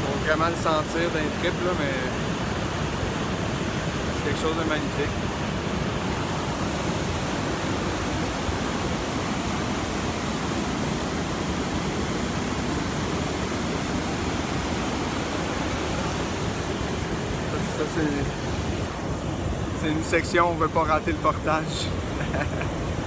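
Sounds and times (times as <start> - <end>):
whitewater rushing over rocks: 0.0 - 23.0.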